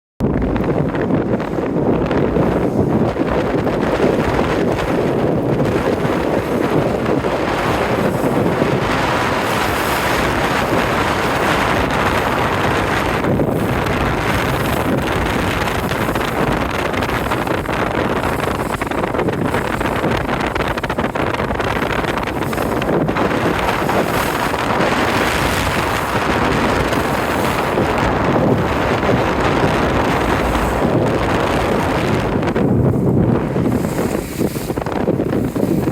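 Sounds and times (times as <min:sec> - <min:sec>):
sea rushing: 0:00.2 - 0:35.9
wind buffeting microphone: 0:00.2 - 0:35.9.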